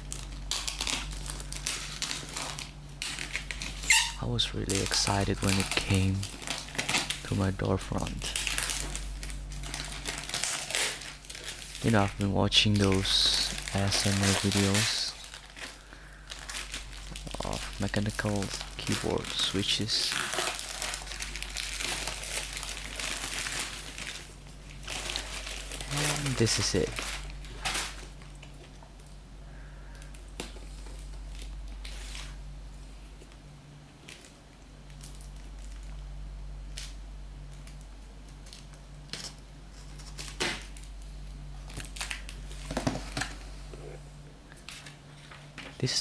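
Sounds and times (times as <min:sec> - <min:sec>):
packaging crinkling: 0:00.0 - 0:29.2, 0:34.0 - 0:36.0, 0:36.6 - 0:43.5.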